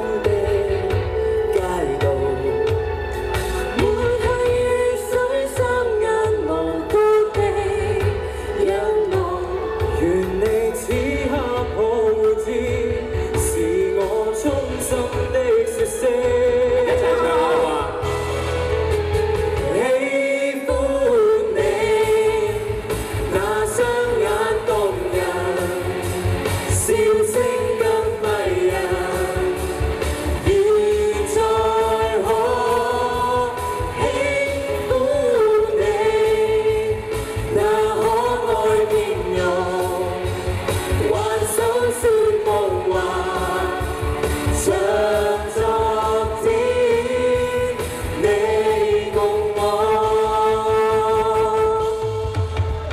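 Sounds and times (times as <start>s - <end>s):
amplified backing music with beat: 0.0s - 52.9s
people singing: 0.0s - 52.9s.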